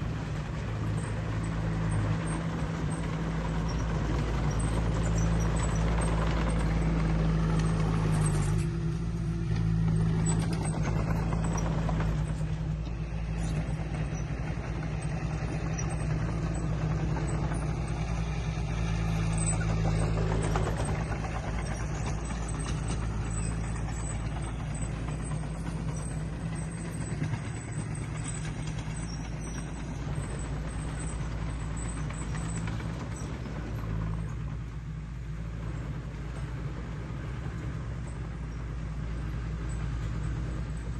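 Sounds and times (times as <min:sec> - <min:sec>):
diesel engine of heavy machinery: 0:00.0 - 0:40.9.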